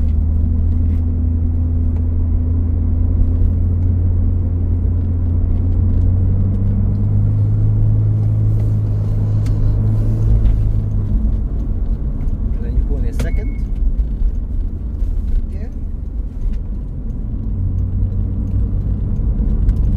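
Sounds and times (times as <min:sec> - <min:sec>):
car engine drone: 0:00.0 - 0:19.9
road noise: 0:00.0 - 0:19.9.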